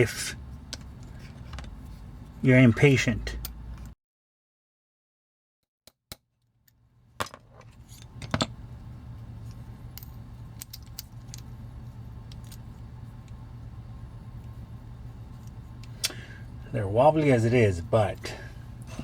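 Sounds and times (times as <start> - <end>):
steady low hum: 0.0 - 4.0, 6.8 - 19.0.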